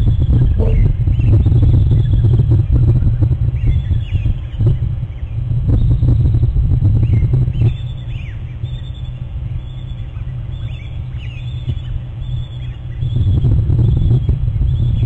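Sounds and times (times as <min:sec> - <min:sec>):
birds chirping: 0:00.0 - 0:15.0
heavy low rumble: 0:00.0 - 0:15.0.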